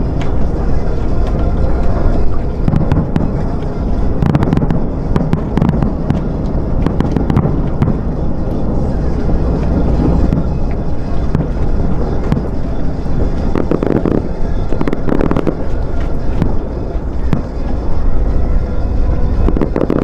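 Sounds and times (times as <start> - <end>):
fireworks bursting and crackling: 0.0 - 17.8, 19.5 - 20.0
low rumble: 0.0 - 20.0.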